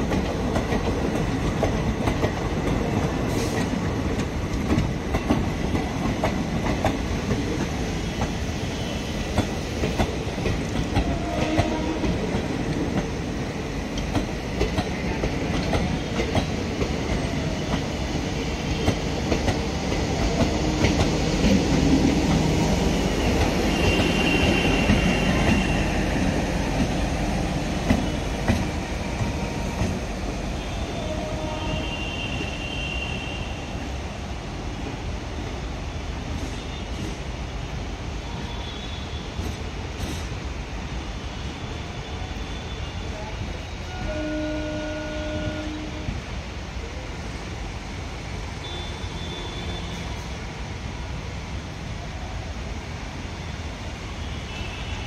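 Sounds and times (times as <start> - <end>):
train coaches rumbling past: 0.0 - 55.0.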